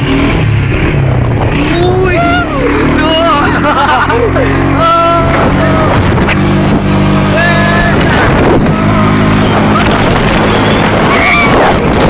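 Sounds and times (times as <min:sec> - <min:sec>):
quad bike engine running: 0:00.0 - 0:12.0
wind buffeting microphone: 0:00.0 - 0:12.0.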